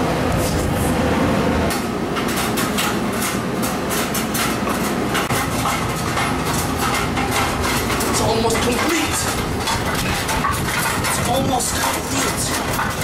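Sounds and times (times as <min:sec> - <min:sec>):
cookware and utensils clattering: 0:02.1 - 0:13.0.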